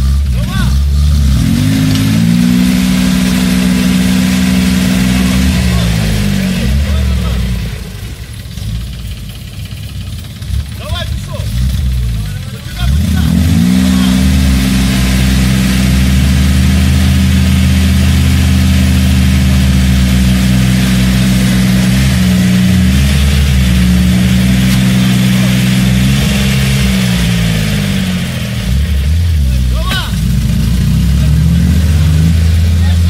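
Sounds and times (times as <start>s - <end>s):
tractor diesel engine revving: 0.0s - 33.0s.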